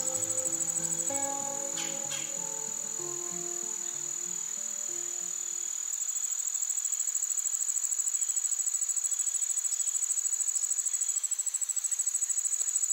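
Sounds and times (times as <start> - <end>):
insect-like trill: 0.0 - 12.9.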